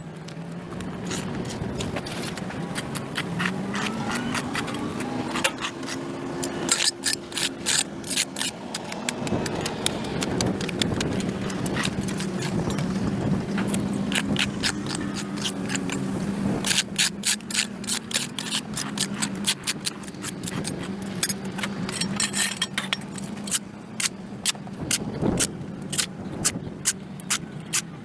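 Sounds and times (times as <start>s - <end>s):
hand tool scraping concrete: 1.0s - 24.1s.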